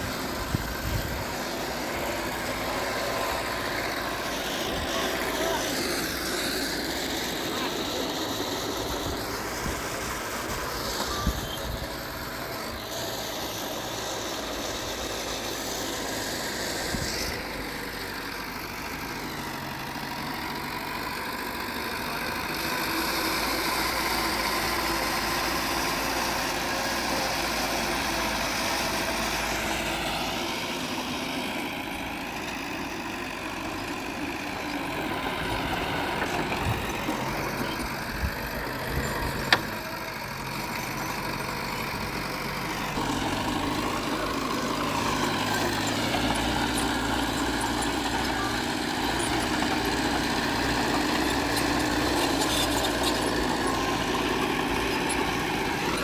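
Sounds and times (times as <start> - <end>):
diesel engines of heavy machinery: 0.0 - 56.0.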